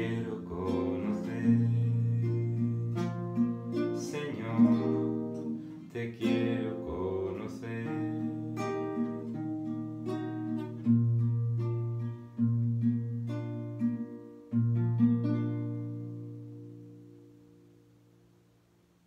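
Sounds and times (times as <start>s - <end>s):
acoustic guitar strumming chords: 0.0s - 18.6s.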